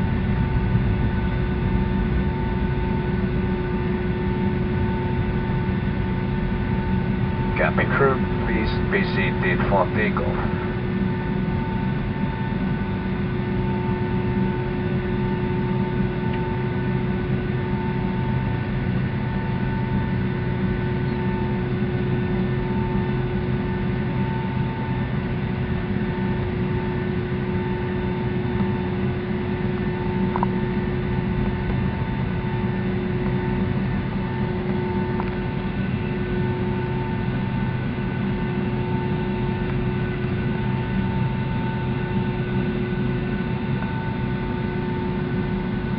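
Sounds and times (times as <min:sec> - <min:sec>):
jet engine cabin drone: 0:00.0 - 0:45.9.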